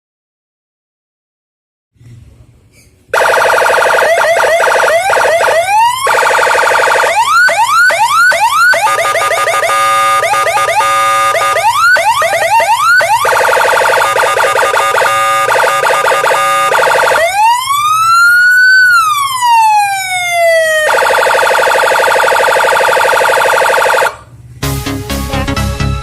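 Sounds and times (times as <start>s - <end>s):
electronic siren: 3.1s - 24.3s.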